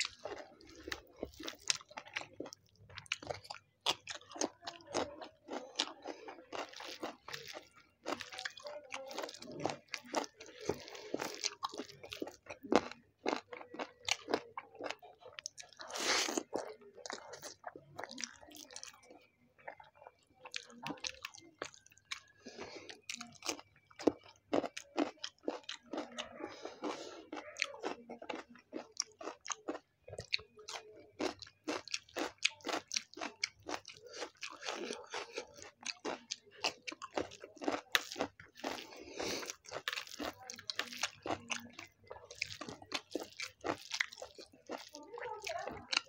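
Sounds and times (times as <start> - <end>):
person chewing with wet smacking: 0.0 - 46.0.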